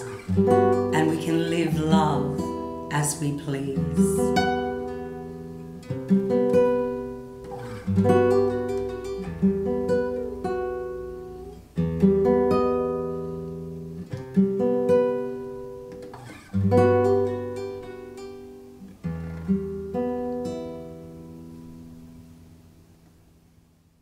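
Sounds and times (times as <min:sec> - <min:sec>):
acoustic guitar strummed chords: 0:00.0 - 0:23.8.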